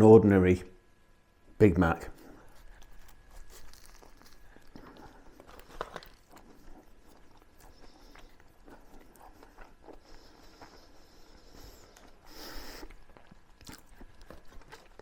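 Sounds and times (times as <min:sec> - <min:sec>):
person chewing: 0:02.2 - 0:15.0.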